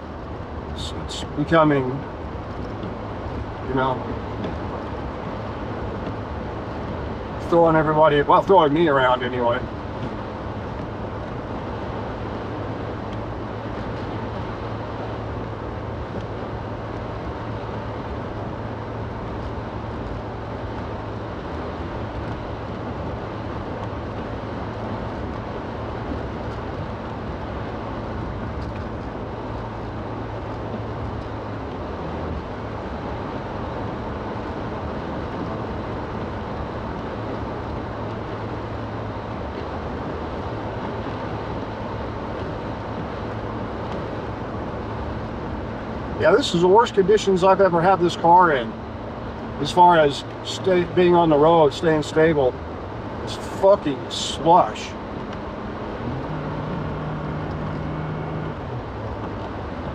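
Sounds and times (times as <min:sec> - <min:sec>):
car engine hum: 0:00.0 - 0:59.9
tyre and road noise in slush: 0:00.0 - 0:59.9.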